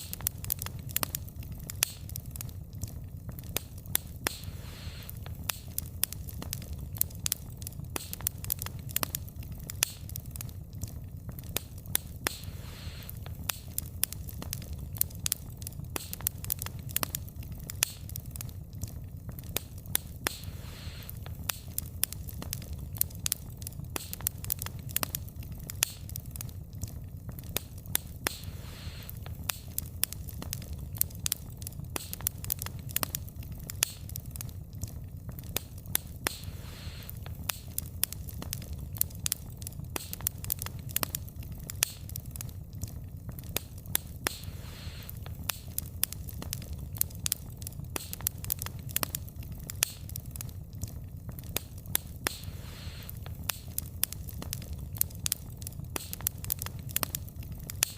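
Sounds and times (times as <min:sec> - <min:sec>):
logs popping and snapping: 0:00.0 - 0:57.9
soft hiss: 0:00.0 - 0:57.9
wood fire crackling: 0:00.0 - 0:57.9.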